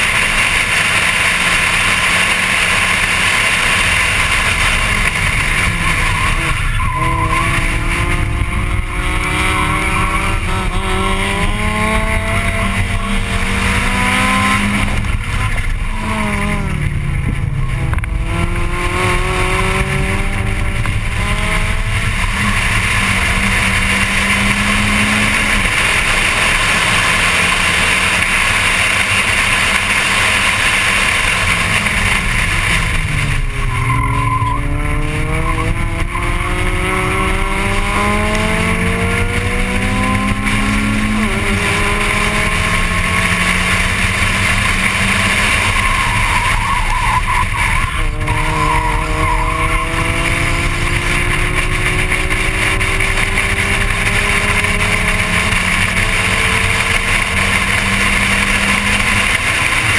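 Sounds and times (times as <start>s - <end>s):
race car engine accelerating: 0.0s - 59.9s
wind and road noise: 0.0s - 59.9s.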